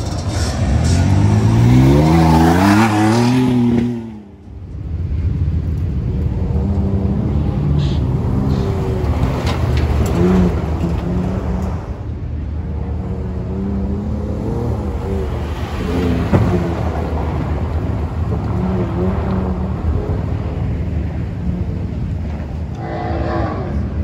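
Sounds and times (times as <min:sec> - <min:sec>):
truck engines revving: 0:00.0 - 0:24.0.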